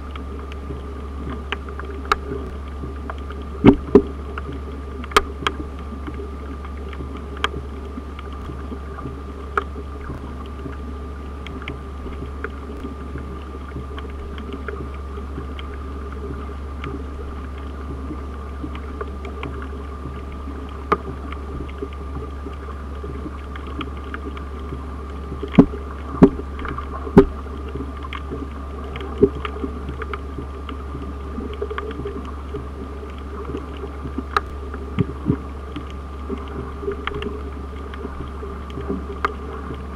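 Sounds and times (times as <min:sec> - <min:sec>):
sharp underwater clicks: 0:00.0 - 0:39.9
underwater low hum and hiss: 0:00.0 - 0:39.9.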